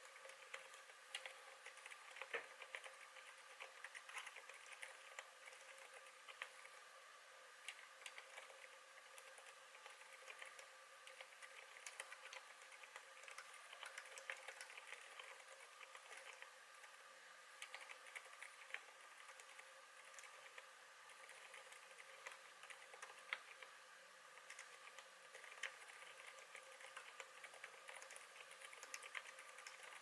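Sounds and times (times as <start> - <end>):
faint hum: 0.0 - 30.0.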